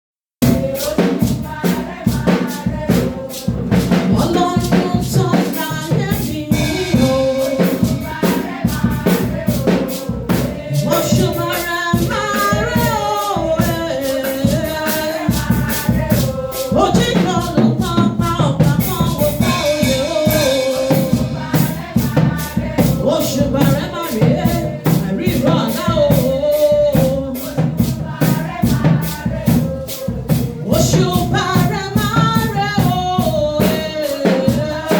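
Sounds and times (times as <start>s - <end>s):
drum beat: 0.4s - 34.9s
shakers: 0.6s - 34.9s
person singing: 4.2s - 9.9s, 10.8s - 34.9s.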